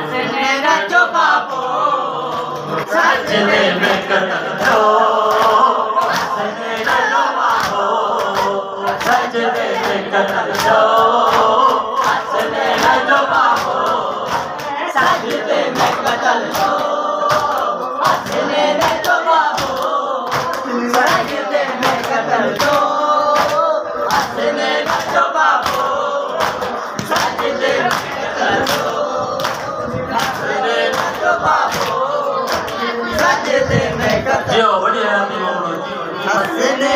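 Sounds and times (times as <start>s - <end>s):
lead reciter on microphone: 0.0s - 36.9s
men chanting in chorus: 0.0s - 36.9s.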